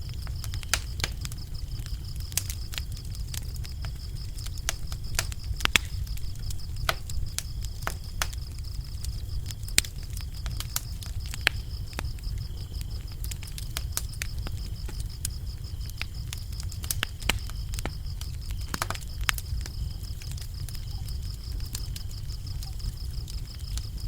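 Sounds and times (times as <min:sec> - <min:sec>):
crickets chirping: 0:00.0 - 0:24.0
low rumble of flames: 0:00.0 - 0:24.0
wood fire crackling and popping: 0:00.0 - 0:24.0.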